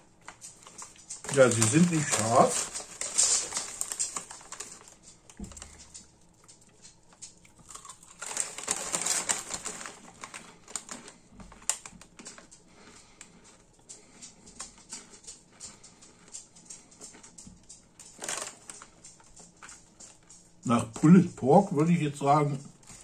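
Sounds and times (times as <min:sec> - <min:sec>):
potato chips being chewed: 0:00.0 - 0:22.0.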